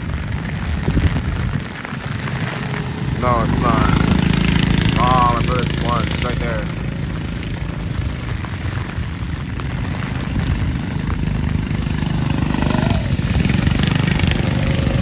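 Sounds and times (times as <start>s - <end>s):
go-kart engines buzzing: 0.3s - 15.0s.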